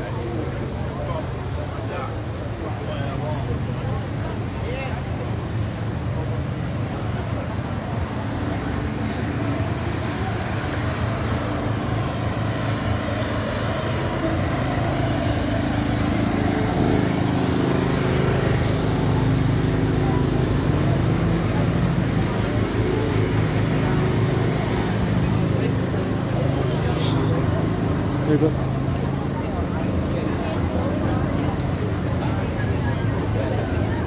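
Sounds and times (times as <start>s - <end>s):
low engine hum: 0.0s - 34.0s
outdoor background noise: 0.0s - 34.0s.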